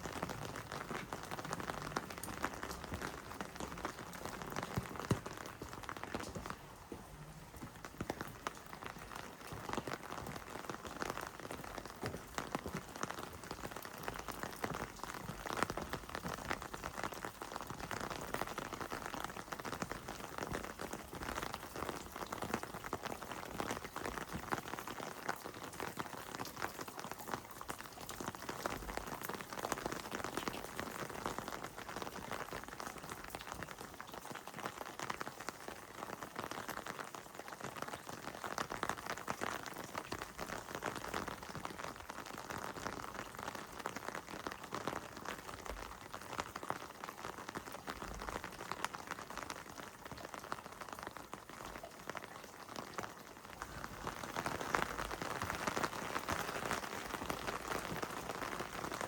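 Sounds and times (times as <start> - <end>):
heavy rain on wet surfaces: 0.0 - 59.0.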